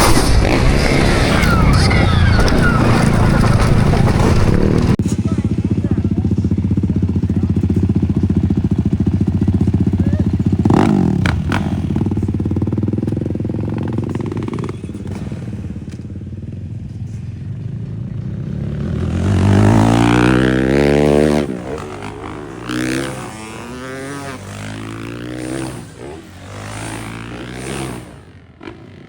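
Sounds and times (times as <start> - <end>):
motorcycle revving loudly: 0.0 - 16.0, 18.0 - 29.0
motorcycle engine running: 0.0 - 29.0.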